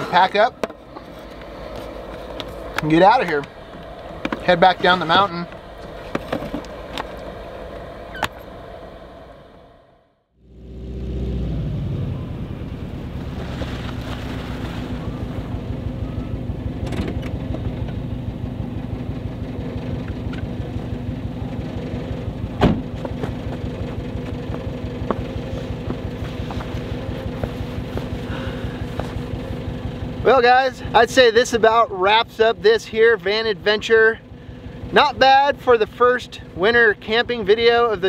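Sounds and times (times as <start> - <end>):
van engine idling: 0.0 - 38.0.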